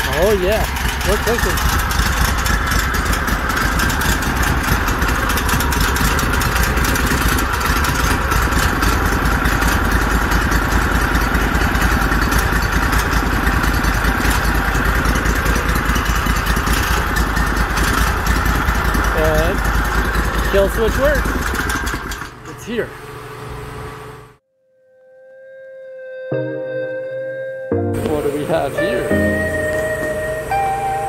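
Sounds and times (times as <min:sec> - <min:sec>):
engine running steadily: 0:00.0 - 0:24.4, 0:27.9 - 0:31.0.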